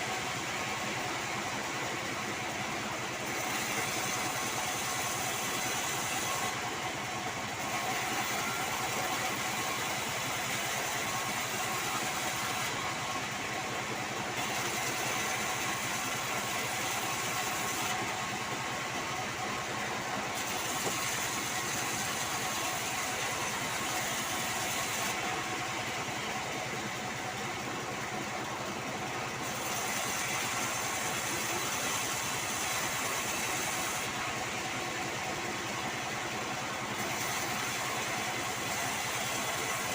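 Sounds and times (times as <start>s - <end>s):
band sawmill sawing wood: 3.2s - 39.9s.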